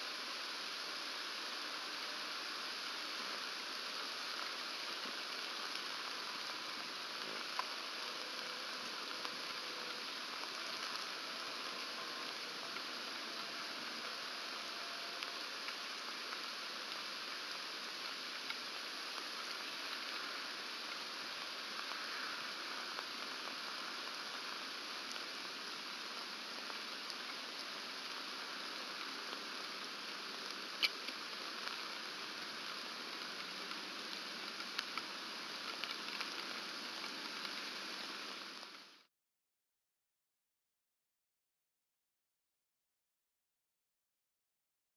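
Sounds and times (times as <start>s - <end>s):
steady rain hiss: 0.0s - 39.1s.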